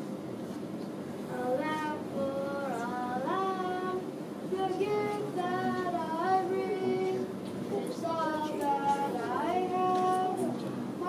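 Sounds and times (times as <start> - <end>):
child singing: 1.3 - 10.6.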